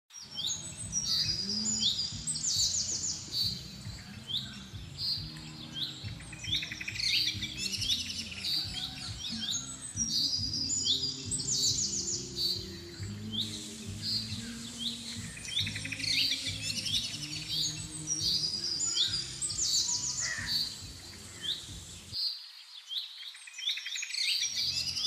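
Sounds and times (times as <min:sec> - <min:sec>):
birds chirping and calling: 0:00.1 - 0:25.0.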